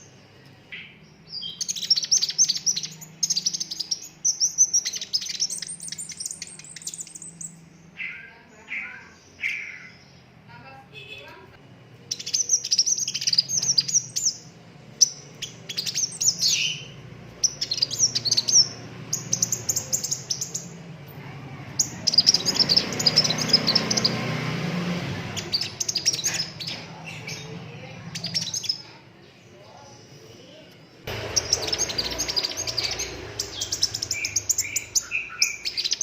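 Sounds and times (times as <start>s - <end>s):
bird chirps and trills: 0.0s - 10.3s, 12.1s - 28.9s, 31.1s - 36.0s.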